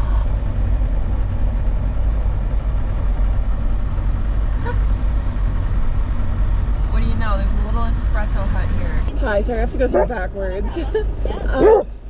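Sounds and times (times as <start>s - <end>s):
truck engine drone from inside: 0.0s - 12.0s.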